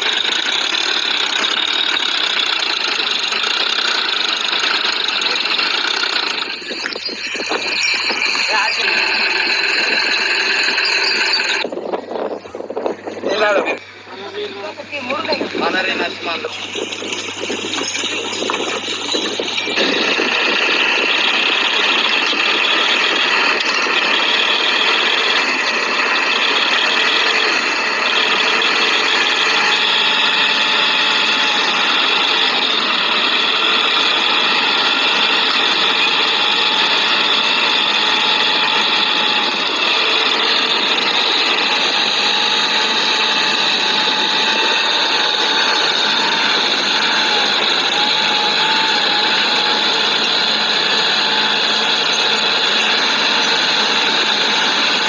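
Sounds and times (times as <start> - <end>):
tractor diesel engines under load: 0.0 - 55.0.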